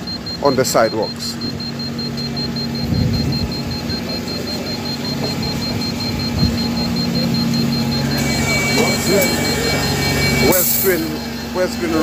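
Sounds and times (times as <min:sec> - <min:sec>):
radiation tester alarm beeping: 0:00.0 - 0:12.0.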